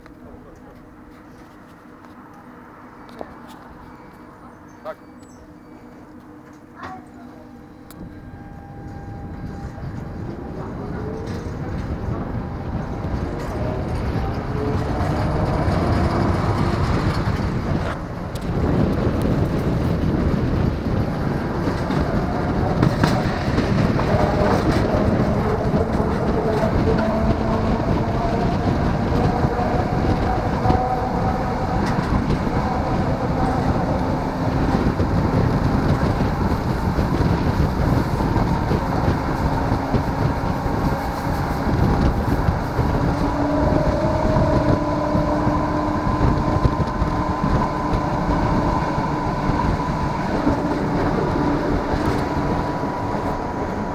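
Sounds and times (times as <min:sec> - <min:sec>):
tram drive whine: 0:00.0 - 0:53.9
tram wheels rumbling on rails: 0:00.0 - 0:53.9.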